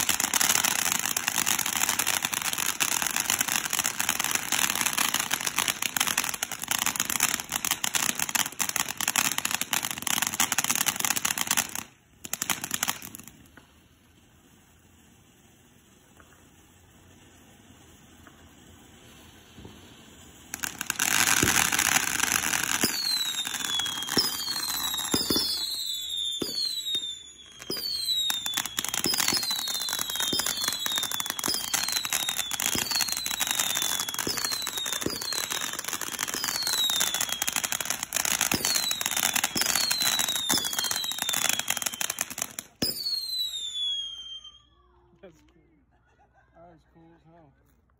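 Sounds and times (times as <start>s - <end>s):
sharp firework pops: 0.0s - 14.2s, 15.8s - 44.3s
whistling firework shots: 0.0s - 45.5s
firework sparks hissing and crackling: 0.0s - 45.7s.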